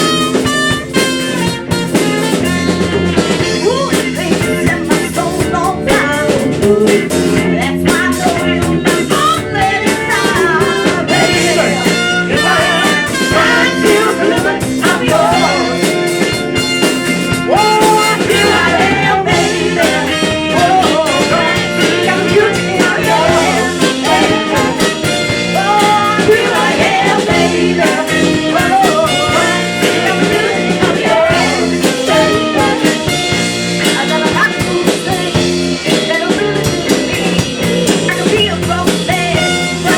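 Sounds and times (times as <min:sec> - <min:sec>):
drum kit: 0:00.0 - 0:39.9
electric guitar: 0:00.0 - 0:39.9
person singing: 0:03.6 - 0:16.4, 0:17.5 - 0:33.2, 0:33.8 - 0:39.9.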